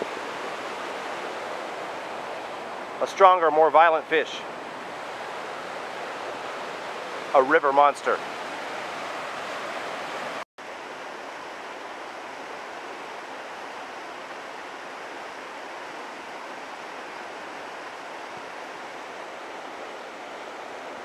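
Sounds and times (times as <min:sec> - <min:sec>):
river water rushing over rocks: 0:00.0 - 0:21.0.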